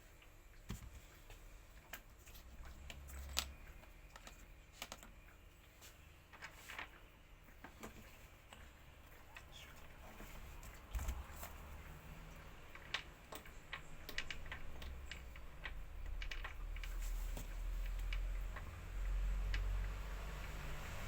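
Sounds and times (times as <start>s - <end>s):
small parts clicking and tapping: 0.7s - 8.6s, 10.6s - 20.9s.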